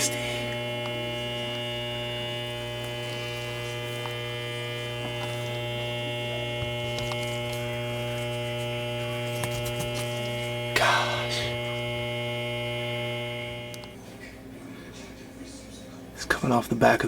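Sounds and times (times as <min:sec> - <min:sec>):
faint high whine: 0:00.0 - 0:16.4
electrical hum: 0:00.0 - 0:17.0.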